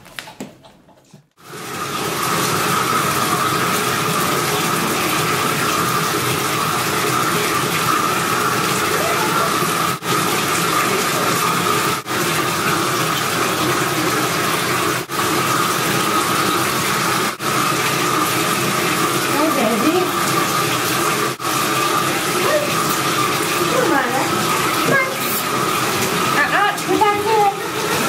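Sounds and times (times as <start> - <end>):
water running from bathtub tap: 1.4 - 28.0.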